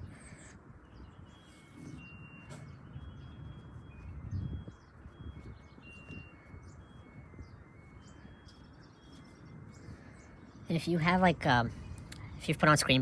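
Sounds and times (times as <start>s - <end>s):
birds chirping and whistling: 0.0s - 12.4s.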